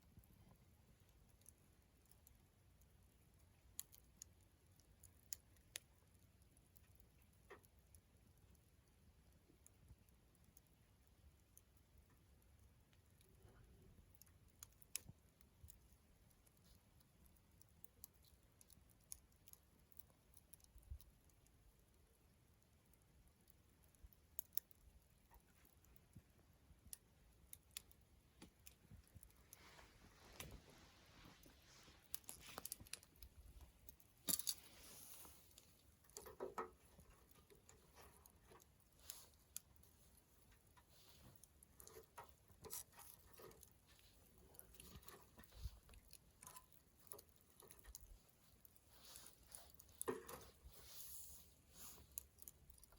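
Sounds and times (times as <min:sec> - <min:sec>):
campfire crackling: 0:00.0 - 0:52.9
fire pops and snaps: 0:00.2 - 0:52.9.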